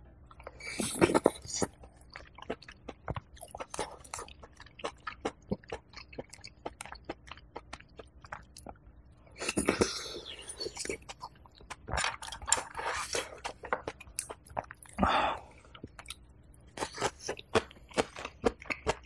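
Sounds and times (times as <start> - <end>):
close-miked chewing and smacking: 0.2 - 19.0.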